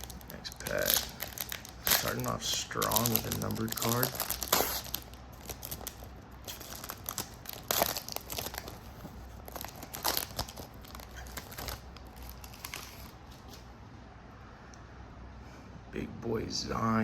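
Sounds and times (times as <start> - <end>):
plastic wrapper crinkling and tearing: 0.0 - 13.6.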